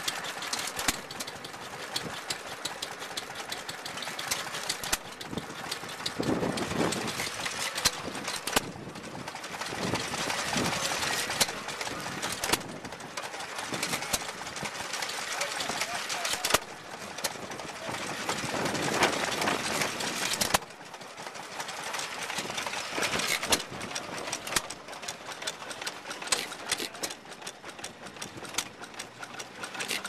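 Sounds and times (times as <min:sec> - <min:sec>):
old engines clattering: 0:00.0 - 0:30.0
regular engine ticking: 0:00.0 - 0:30.0.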